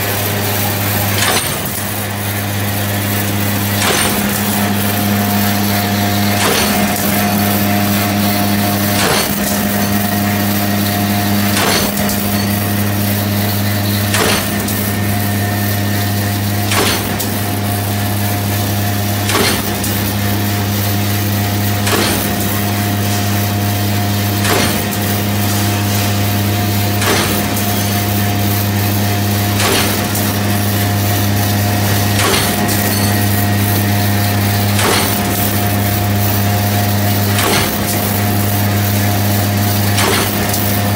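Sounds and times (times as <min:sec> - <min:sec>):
machine motor hum: 0:00.0 - 0:40.9
wire cutter clacking: 0:01.0 - 0:17.9, 0:19.2 - 0:20.3, 0:21.7 - 0:23.0, 0:24.4 - 0:28.6, 0:29.4 - 0:40.9.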